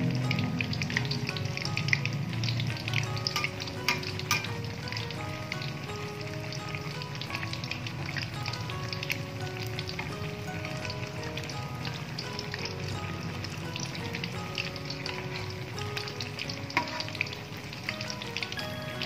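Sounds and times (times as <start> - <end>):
omelette sizzling in hot oil: 0.0 - 19.0.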